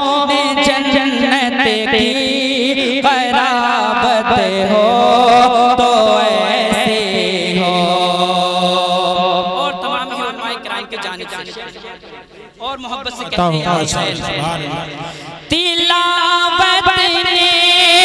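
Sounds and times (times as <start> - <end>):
person singing devotional poetry: 0.0 - 18.0.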